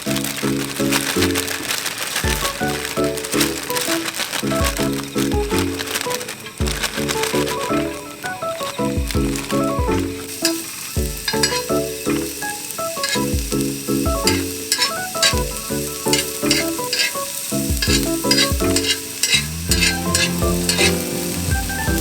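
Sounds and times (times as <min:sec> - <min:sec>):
sizzling hiss: 0:00.0 - 0:22.0
background music with beat: 0:02.2 - 0:22.0.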